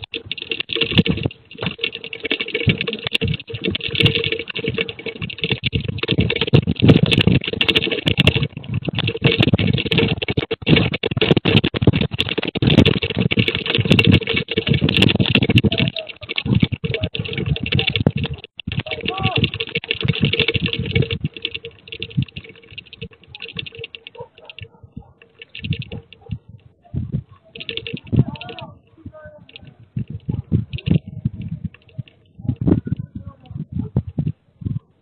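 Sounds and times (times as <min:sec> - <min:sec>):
rattling and clattering: 0:00.0 - 0:35.0.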